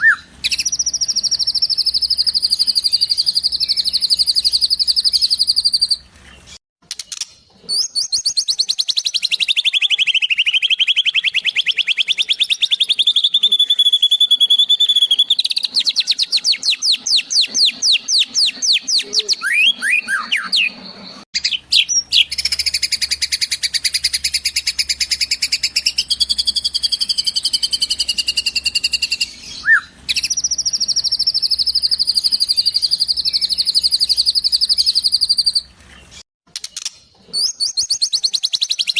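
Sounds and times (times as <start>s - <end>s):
high trilled bird calls: 0.0s - 6.0s, 7.1s - 38.9s.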